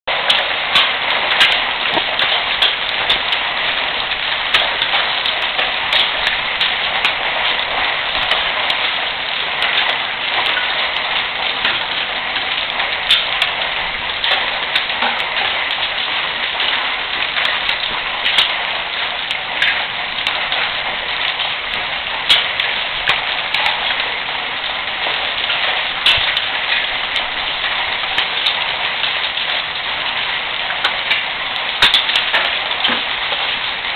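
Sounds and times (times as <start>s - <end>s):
hailstones ticking: 0.1s - 33.9s
rain hissing: 0.1s - 33.9s.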